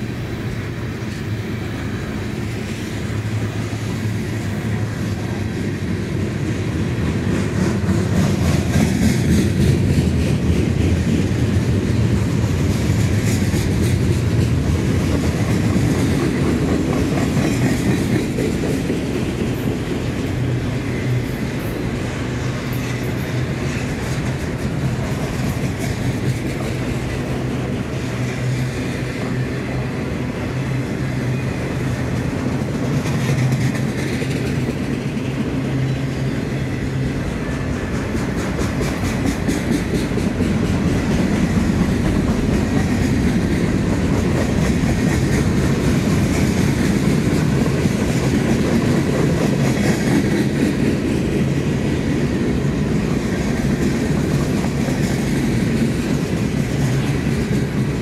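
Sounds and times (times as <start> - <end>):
freight train rumble: 0.0 - 58.0
wheels clattering on rails: 0.0 - 58.0.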